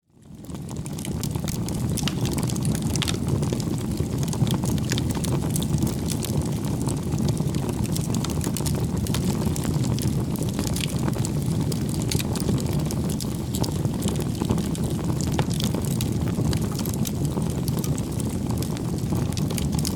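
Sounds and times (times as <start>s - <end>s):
burning wood crackling and popping: 0.1s - 19.9s
low rumble of flames: 0.1s - 19.9s.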